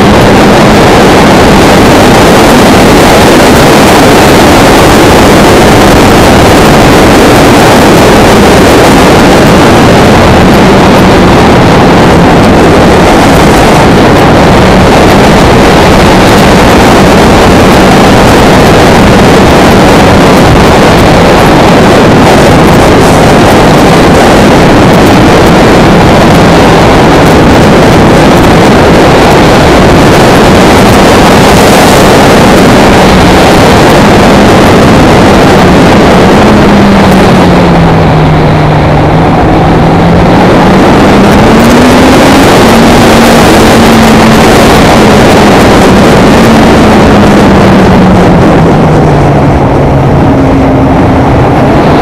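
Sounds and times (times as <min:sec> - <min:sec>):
motorcycle engine running: 0:00.0 - 0:52.0
wind noise rushing: 0:00.0 - 0:52.0.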